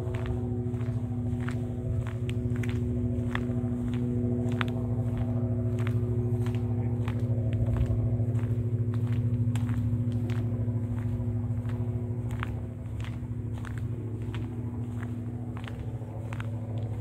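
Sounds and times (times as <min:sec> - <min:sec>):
footsteps: 0:00.0 - 0:17.0.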